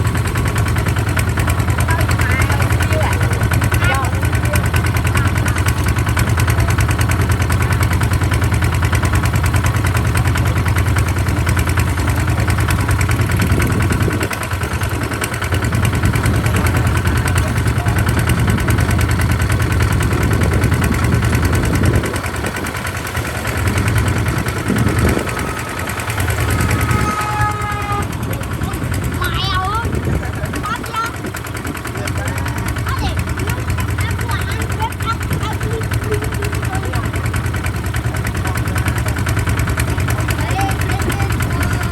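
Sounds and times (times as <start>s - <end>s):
diesel engine chugging: 0.0s - 41.9s.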